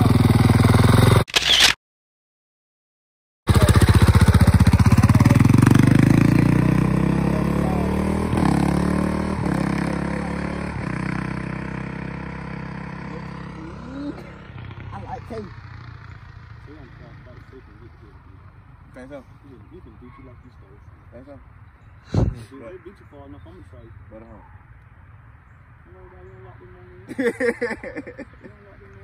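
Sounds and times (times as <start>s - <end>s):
dirt bike engines revving: 0.0s - 1.7s, 3.5s - 29.0s.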